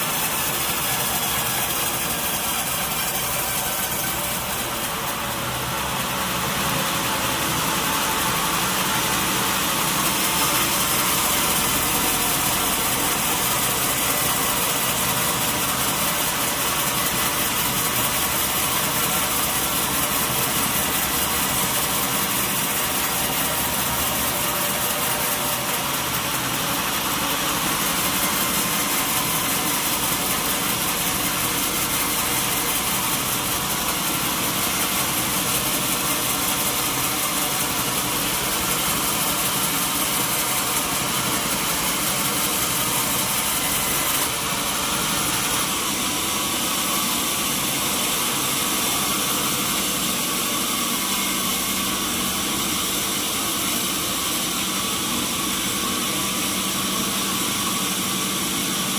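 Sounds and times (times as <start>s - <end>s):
saw running: 0.0s - 58.9s.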